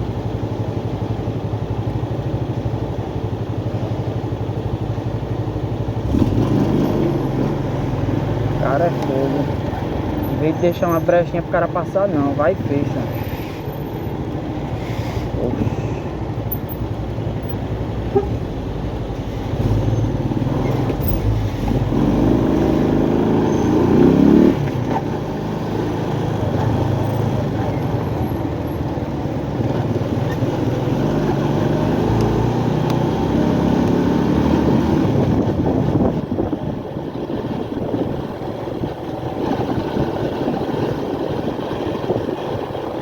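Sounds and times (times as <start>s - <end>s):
road and wind noise: 0.0s - 43.0s.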